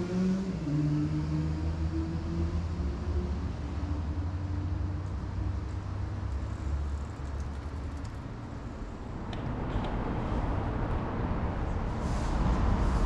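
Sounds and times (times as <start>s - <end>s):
faint street noise: 0.0s - 13.0s
low rumble of traffic: 0.0s - 13.0s.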